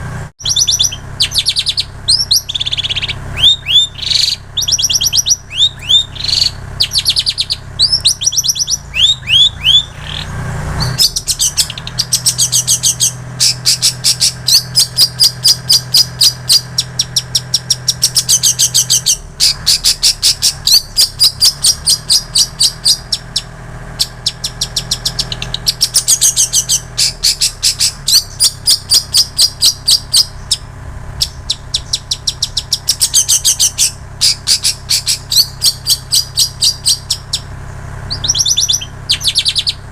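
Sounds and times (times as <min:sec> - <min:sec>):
shrike singing fast chirping song: 0:00.4 - 0:39.9.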